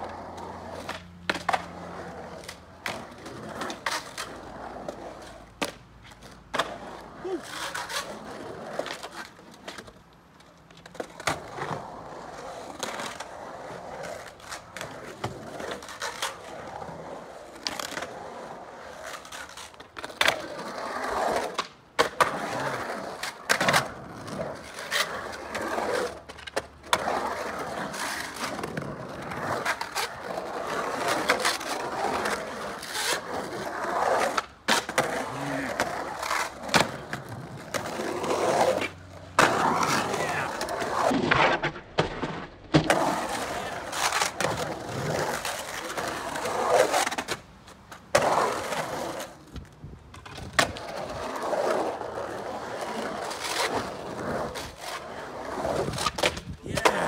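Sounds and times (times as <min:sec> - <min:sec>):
skateboard wheels rolling on concrete: 0:00.0 - 0:57.0.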